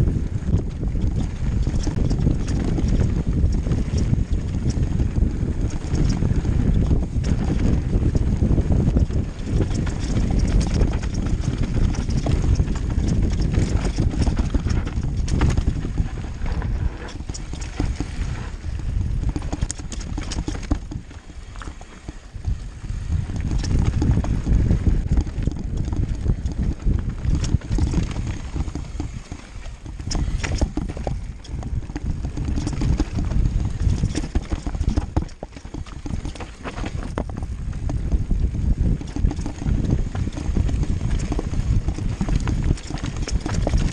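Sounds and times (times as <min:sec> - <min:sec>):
bike rattling and knocking: 0:00.0 - 0:43.9
wind rumbling on microphone: 0:00.0 - 0:43.9.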